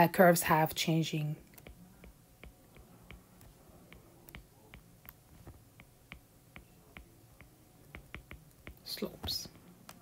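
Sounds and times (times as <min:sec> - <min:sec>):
low room hum: 0:00.0 - 0:10.0
stylus tapping glass screen: 0:01.6 - 0:10.0.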